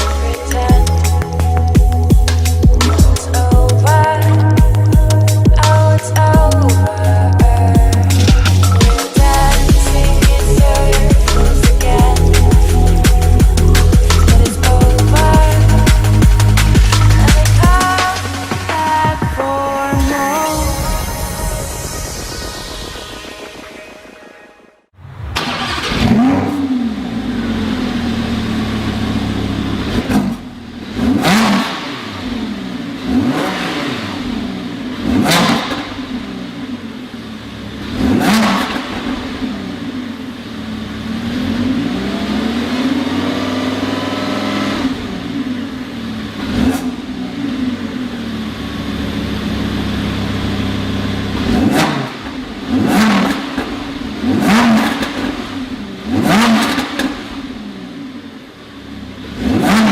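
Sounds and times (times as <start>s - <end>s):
sports car engine revving: 0.0s - 19.5s, 25.0s - 59.9s.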